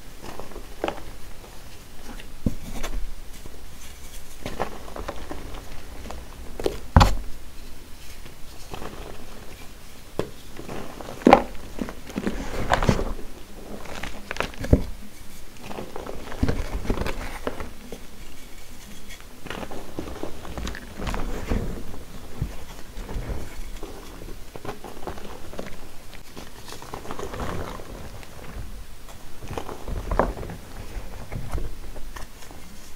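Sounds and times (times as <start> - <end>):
hands crushing powdery blocks: 0.0 - 32.9.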